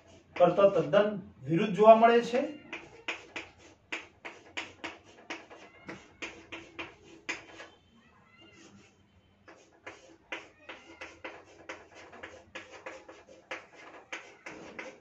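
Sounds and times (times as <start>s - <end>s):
chalk scraping on chalkboard: 0.0s - 1.0s, 1.9s - 7.8s, 8.4s - 15.0s
chalk squeaking: 0.0s - 1.1s, 1.8s - 15.0s.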